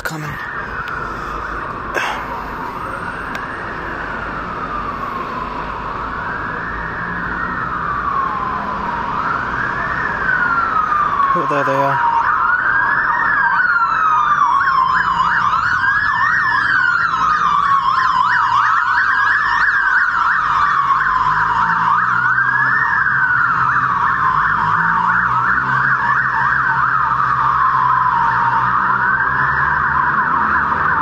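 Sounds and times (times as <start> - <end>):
engine and traffic rumble: 0.0 - 31.0
siren wailing: 0.0 - 31.0
siren yelping: 0.0 - 31.0.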